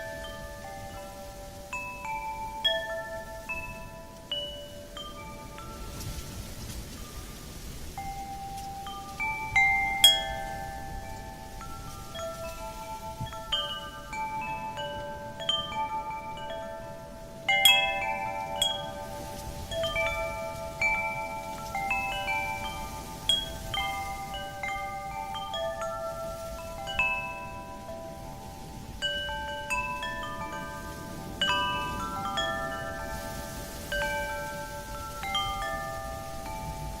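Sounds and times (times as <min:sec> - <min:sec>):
faint wind noise: 0:00.0 - 0:37.0
wind chimes ringing: 0:00.0 - 0:37.0.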